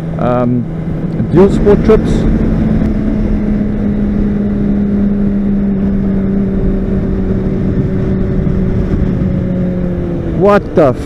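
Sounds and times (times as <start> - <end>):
motorcycle engine cruising: 0.0 - 11.0
road rumble: 0.0 - 11.0
wind noise: 0.0 - 11.0.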